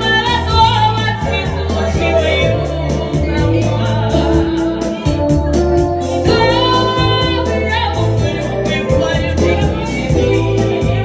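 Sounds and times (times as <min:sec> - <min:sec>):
backing track with bass and beat: 0:00.0 - 0:11.0
woman singing: 0:00.0 - 0:11.0.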